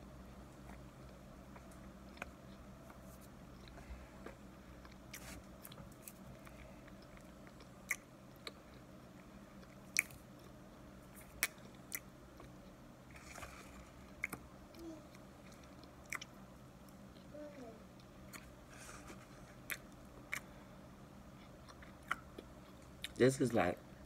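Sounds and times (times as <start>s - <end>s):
soft chewing: 0.1s - 23.2s.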